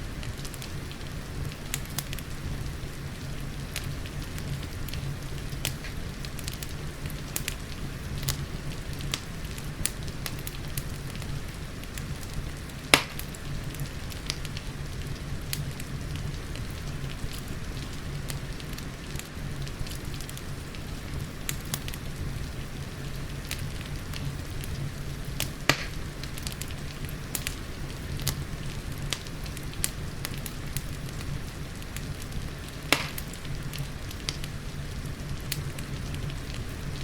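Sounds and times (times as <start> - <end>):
rain hiss: 0.0 - 37.0
wood fire crackling: 0.0 - 37.0
loud fire pops: 0.2 - 37.0.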